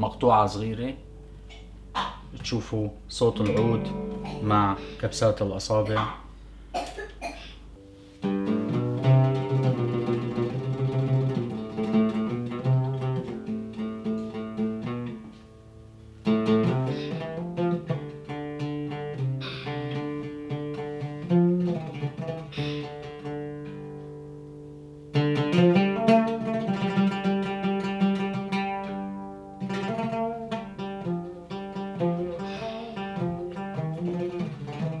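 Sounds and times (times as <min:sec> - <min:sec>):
oud melody: 0:00.0 - 0:06.6, 0:07.7 - 0:35.0.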